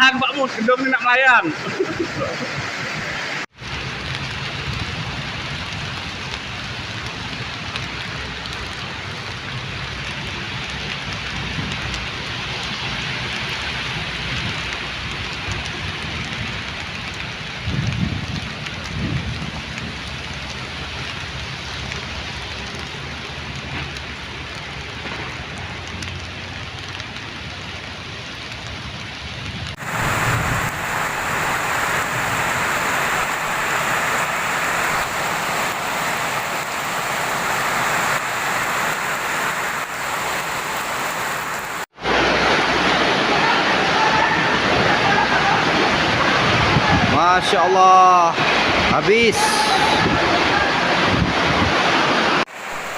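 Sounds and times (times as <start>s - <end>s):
heavy rain pouring: 0.0s - 52.9s
wind gusts: 0.0s - 52.9s.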